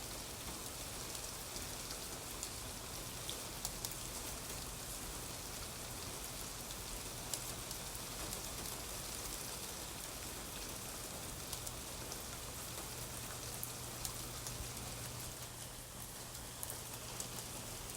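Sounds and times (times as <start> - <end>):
steady rain falling: 0.0 - 17.9.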